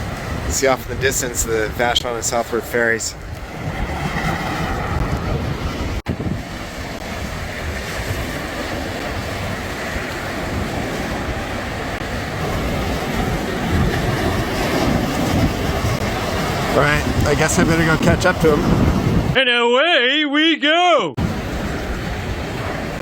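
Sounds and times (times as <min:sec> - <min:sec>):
wind buffeting microphone: 0:00.0 - 0:19.4, 0:21.2 - 0:23.0
waves on open water: 0:00.0 - 0:23.0.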